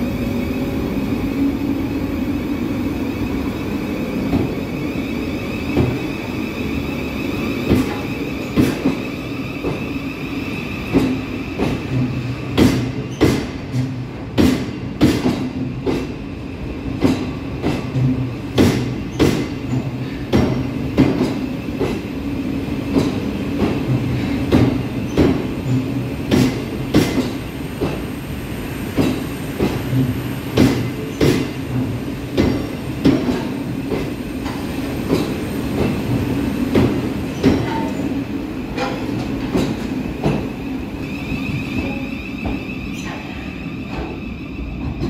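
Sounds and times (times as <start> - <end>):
electric train whine and hum: 0.0 - 45.0.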